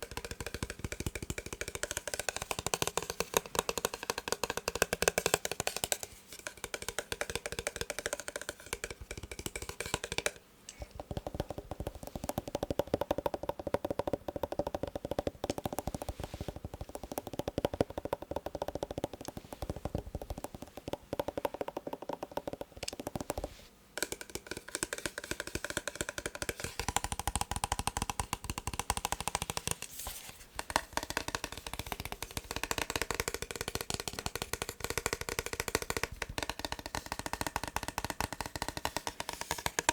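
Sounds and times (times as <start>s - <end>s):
fast tapping on hard casing: 0.0s - 10.4s, 11.0s - 29.9s, 30.6s - 39.9s.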